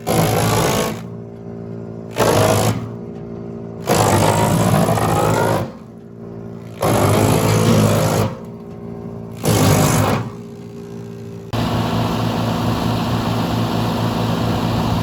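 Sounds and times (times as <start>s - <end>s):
machine humming: 0.0s - 15.0s
wood chipper grinding branches: 0.0s - 15.0s.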